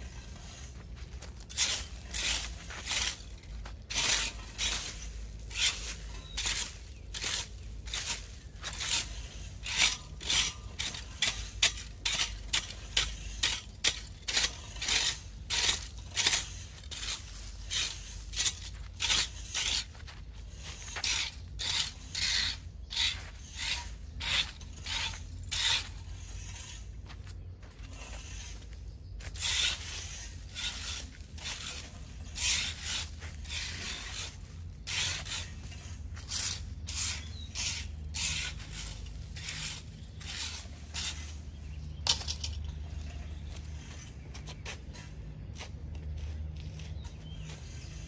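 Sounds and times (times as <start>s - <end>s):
rake scraping leaves on concrete: 0.0s - 48.0s.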